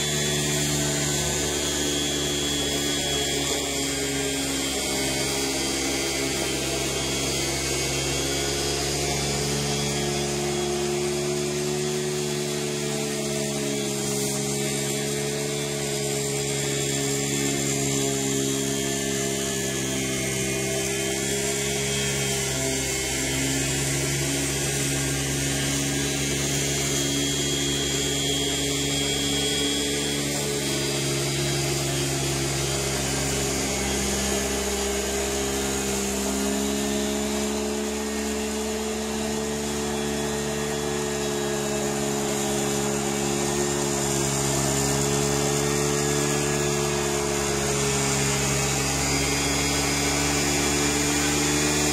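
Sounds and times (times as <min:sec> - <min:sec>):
lawn mower motor humming: 0:00.0 - 0:51.9.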